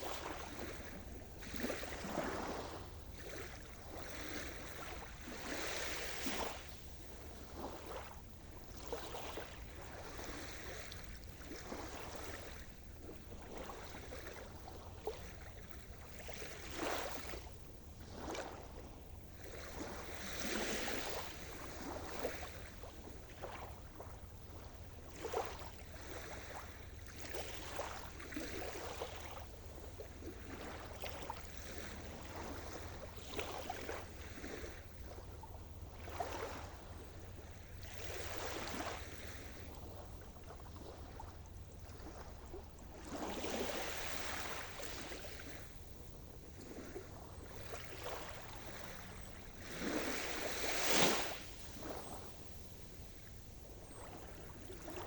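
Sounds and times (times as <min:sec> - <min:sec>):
small waves breaking: 0:00.0 - 0:55.0.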